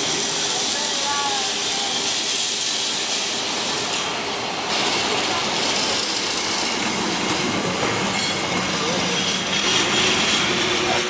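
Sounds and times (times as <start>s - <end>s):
tram wheels rattling on rails: 0.0s - 11.0s.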